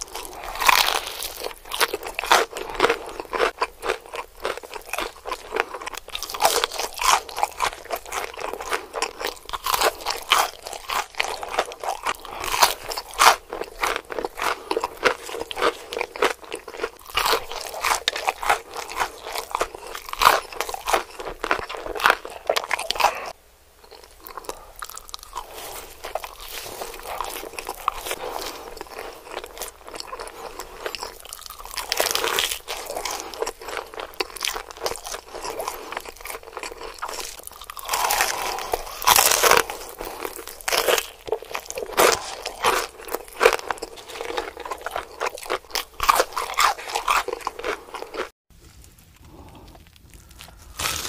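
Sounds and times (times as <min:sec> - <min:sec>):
crunching of fried chicken: 0:00.0 - 0:51.0.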